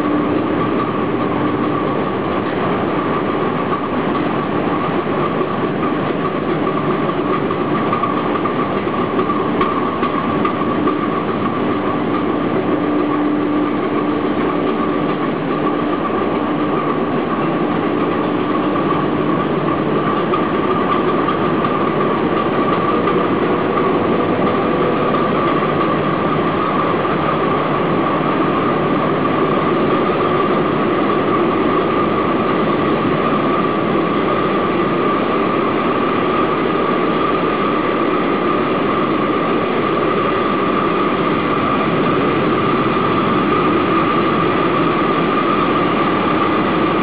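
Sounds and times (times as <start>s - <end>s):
diesel engines running: 0.0s - 47.0s
high-pitched whine: 0.0s - 47.0s.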